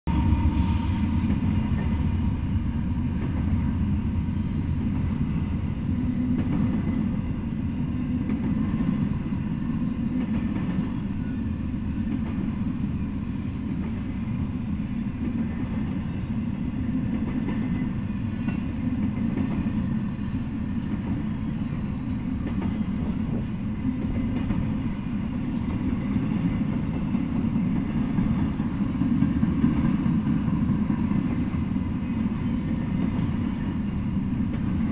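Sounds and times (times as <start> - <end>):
freight train wheels rumbling on rails: 0.0 - 34.9.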